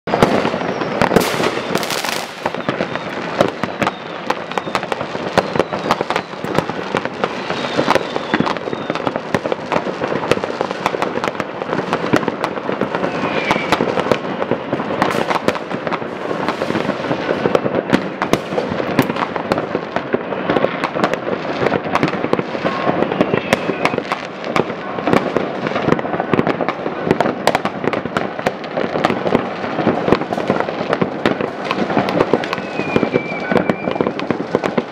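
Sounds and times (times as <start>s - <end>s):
fireworks and firecrackers banging: 0.0s - 34.9s
firework whistles: 0.1s - 34.9s.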